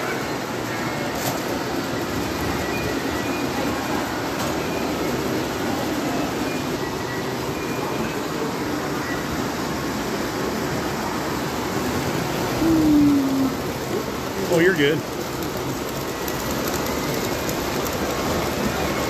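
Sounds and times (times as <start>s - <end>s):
model trains rolling rumble: 0.0s - 19.0s.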